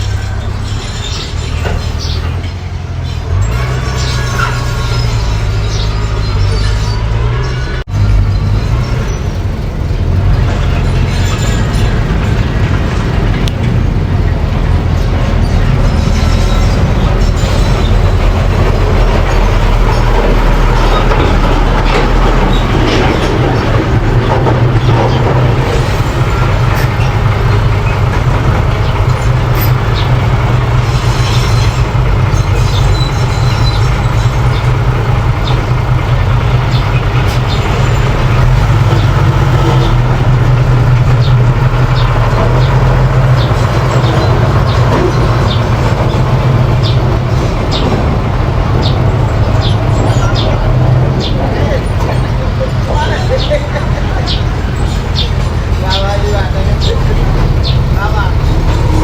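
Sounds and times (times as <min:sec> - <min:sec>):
bulldozer engine under load: 0:00.0 - 0:59.0
crawler tracks clattering: 0:00.0 - 0:59.0.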